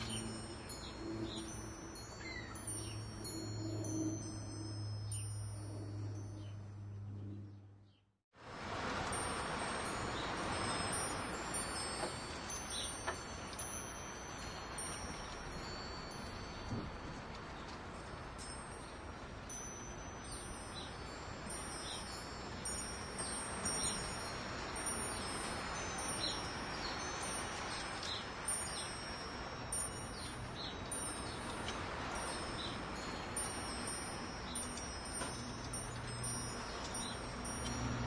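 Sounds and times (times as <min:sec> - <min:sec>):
wind chimes ringing: 0:00.0 - 0:07.5, 0:08.8 - 0:38.0.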